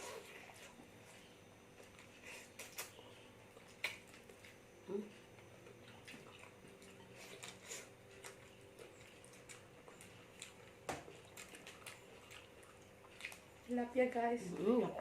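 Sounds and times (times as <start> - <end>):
chewing and food handling clicks: 1.7 - 13.8.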